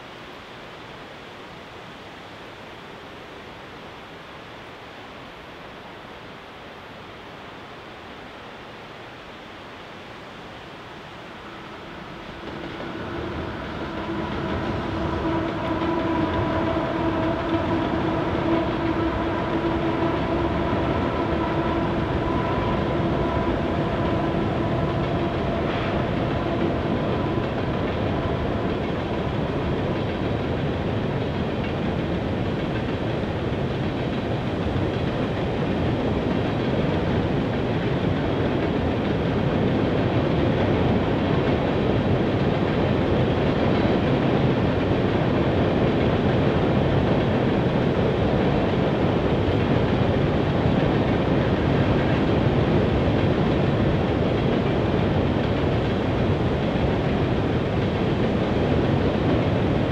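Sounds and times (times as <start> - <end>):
train wheels clickety-clack: 11.7 - 59.9.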